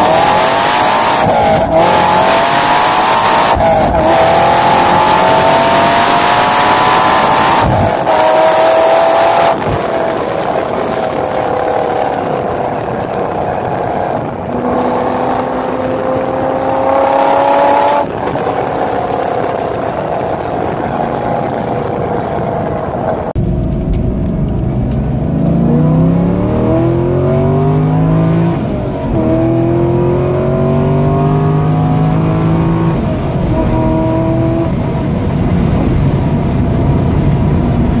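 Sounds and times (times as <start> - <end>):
car engine at full throttle: 0.0 - 38.0.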